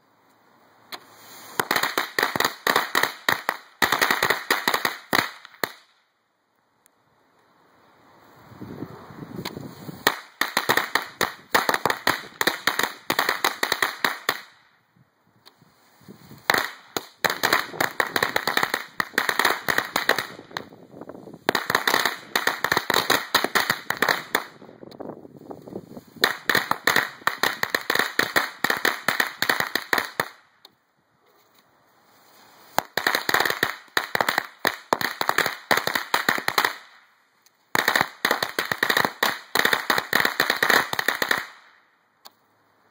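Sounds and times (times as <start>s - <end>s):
firecrackers cracking rapidly: 0.9s - 6.0s, 9.4s - 14.8s, 15.4s - 30.6s, 32.2s - 42.0s.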